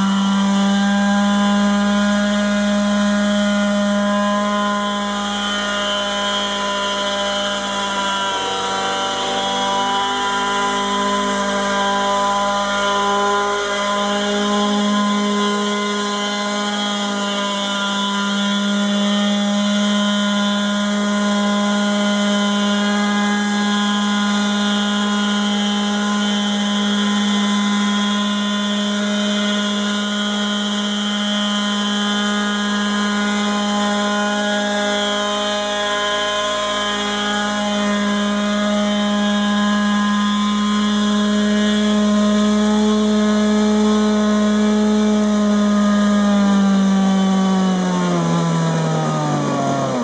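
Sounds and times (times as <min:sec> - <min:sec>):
small gas engine running: 0:00.0 - 0:50.0.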